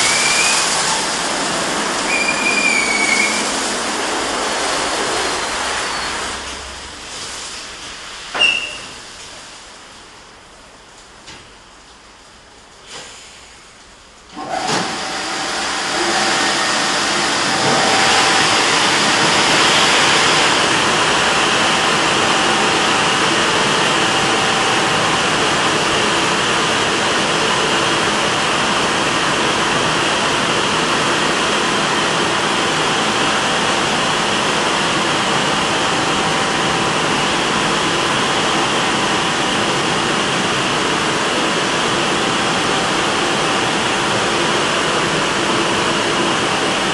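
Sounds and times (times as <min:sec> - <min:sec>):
car wash rushing hiss: 0:00.0 - 0:46.9.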